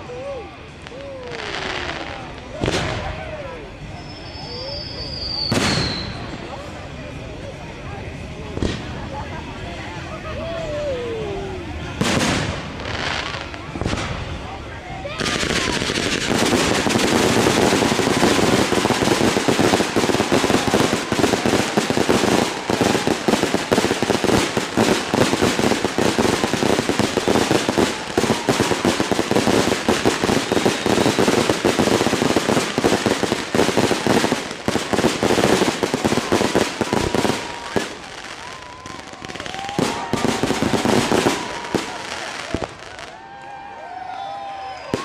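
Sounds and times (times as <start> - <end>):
fireworks bangs and crackling: 0.7 - 10.0, 11.4 - 43.4.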